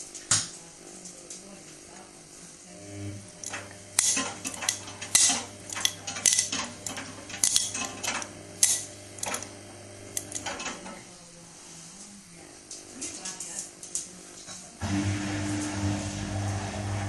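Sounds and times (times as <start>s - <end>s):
washing machine motor hum: 0.0s - 11.6s, 14.7s - 17.0s.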